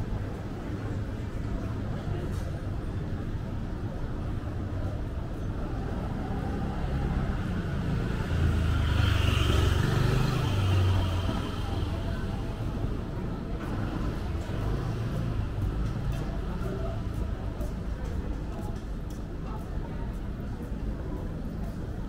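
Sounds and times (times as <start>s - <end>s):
low traffic noise: 0.0s - 22.0s.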